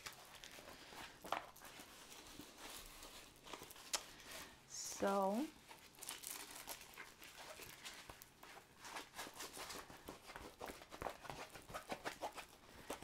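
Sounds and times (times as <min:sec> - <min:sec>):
canvas rustling and crackling: 0:00.0 - 0:13.0.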